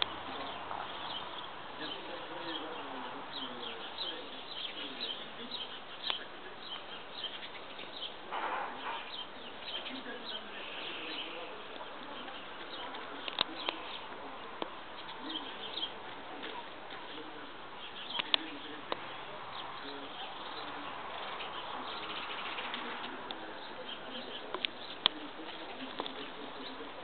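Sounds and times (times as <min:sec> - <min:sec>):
birds calling: 0:00.0 - 0:27.0.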